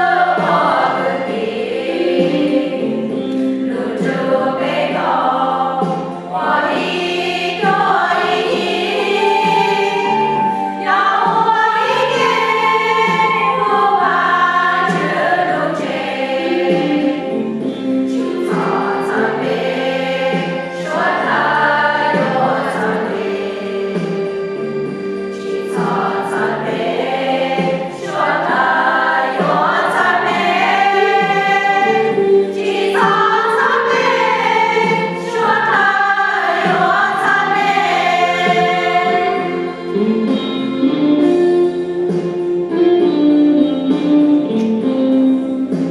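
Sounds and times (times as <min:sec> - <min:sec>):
group singing a hymn: 0:00.0 - 0:41.2.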